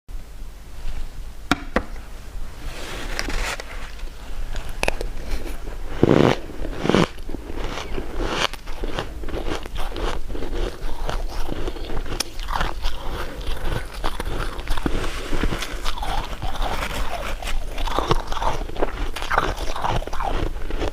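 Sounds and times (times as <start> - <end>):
crisp bites and chewing: 3.1 - 20.9.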